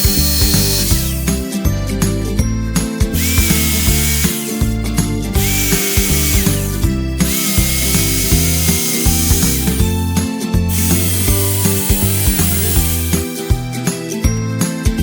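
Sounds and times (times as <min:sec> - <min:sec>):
cordless drill whining: 0:00.0 - 0:01.4, 0:03.1 - 0:13.8
background music with steady beat: 0:00.0 - 0:15.0.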